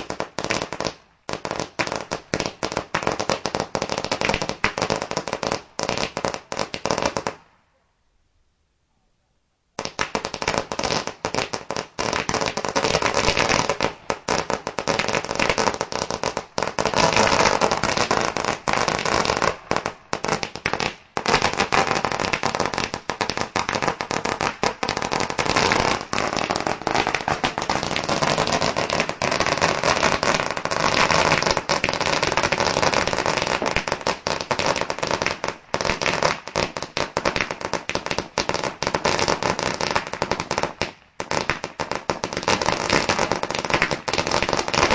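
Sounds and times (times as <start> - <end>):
fireworks bangs and crackling: 0.0 - 7.6, 9.8 - 44.9.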